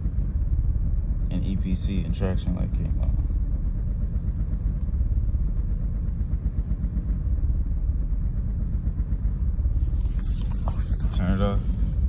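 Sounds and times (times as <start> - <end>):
car engine idling roughly: 0.0 - 12.0.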